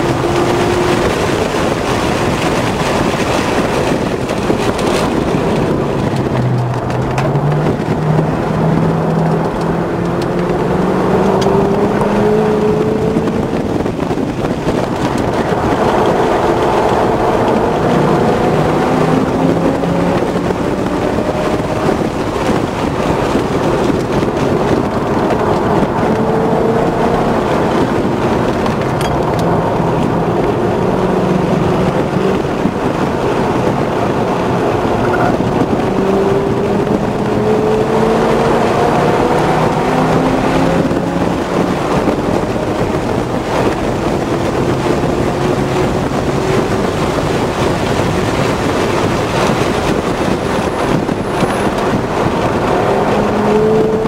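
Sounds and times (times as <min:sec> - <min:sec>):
car engine revving: 0:00.0 - 0:54.0
wind noise: 0:00.0 - 0:54.0.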